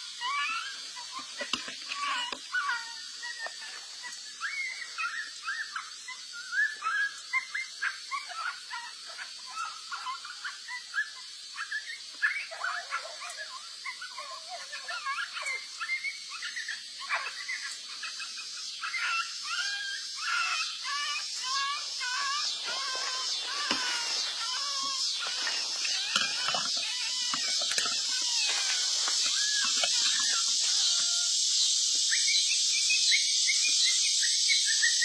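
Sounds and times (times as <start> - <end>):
dogs yelping and squealing: 0.0 - 35.0
steady high hiss: 0.0 - 35.0.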